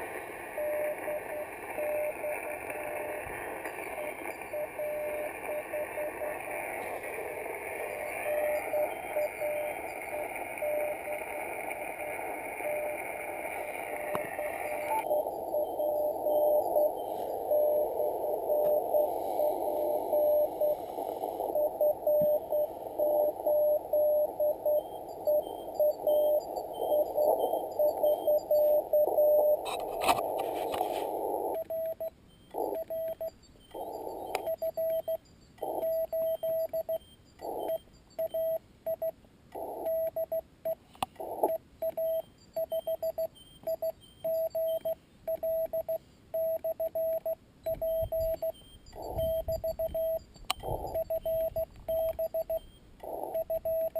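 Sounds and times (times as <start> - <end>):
receiver band hiss: 0.0 - 38.7, 44.4 - 53.9
morse code beeps: 0.0 - 53.9
clean sidetone morse beeps: 0.6 - 29.8, 30.9 - 53.9.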